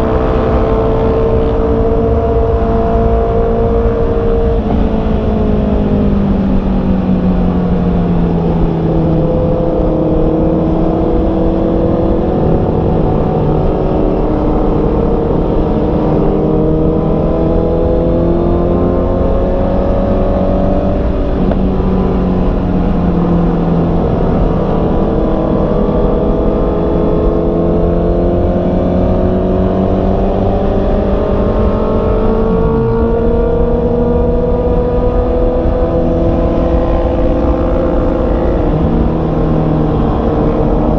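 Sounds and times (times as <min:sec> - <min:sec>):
wind noise: 0:00.0 - 0:40.9.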